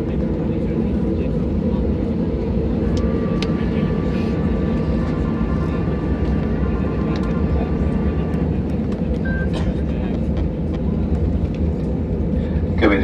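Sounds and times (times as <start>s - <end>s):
faint whine: 0.0s - 13.0s
jet engines rumbling in cabin: 0.0s - 13.0s.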